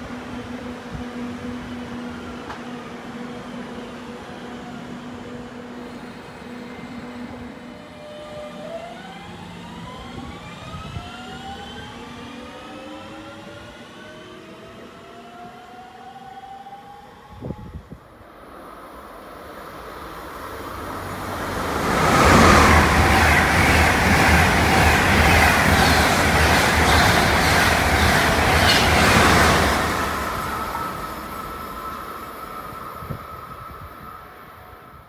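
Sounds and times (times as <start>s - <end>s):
high-speed train passing: 0.0s - 35.0s.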